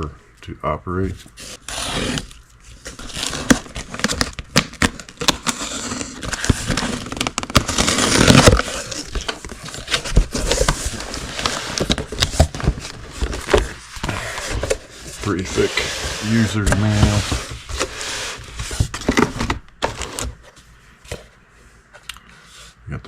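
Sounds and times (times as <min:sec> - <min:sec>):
cardboard box being opened: 0:01.4 - 0:20.4.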